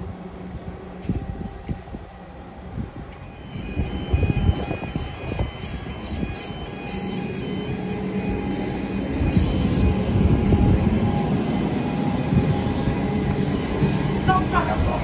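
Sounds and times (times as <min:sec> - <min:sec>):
train motors humming: 0:00.0 - 0:15.0
train wheels rumbling on rails: 0:00.0 - 0:15.0.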